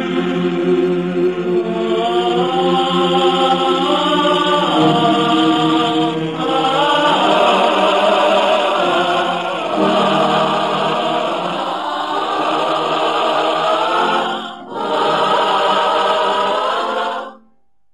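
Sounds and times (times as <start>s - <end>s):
voices chanting long held notes: 0.0s - 17.4s.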